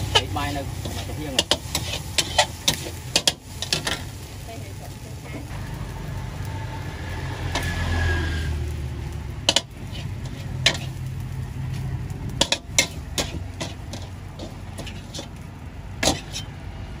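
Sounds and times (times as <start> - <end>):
metal spatula scraping a wok: 0.0 - 8.8, 9.4 - 16.6
steady low rumble: 0.0 - 17.0.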